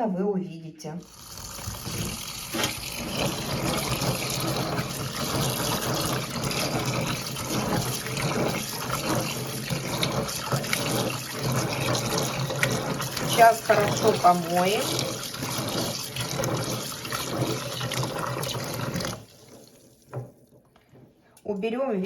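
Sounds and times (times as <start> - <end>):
tap water running and splashing: 1.0 - 20.7.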